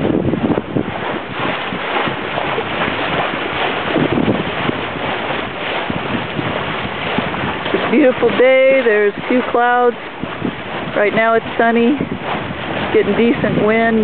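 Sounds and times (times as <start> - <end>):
water washing past hull: 0.0 - 14.0
wind buffeting microphone: 0.0 - 14.0.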